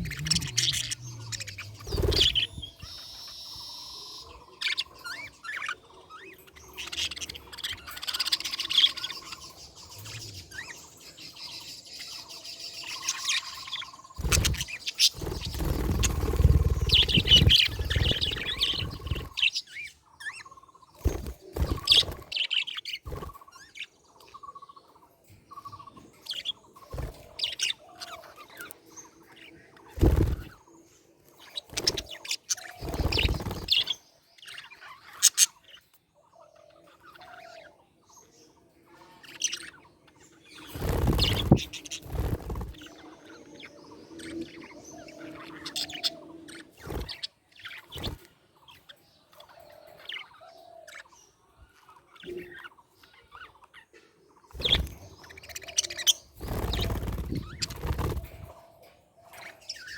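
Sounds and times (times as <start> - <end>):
budgerigars chirping: 0.0 - 24.8, 31.5 - 58.6.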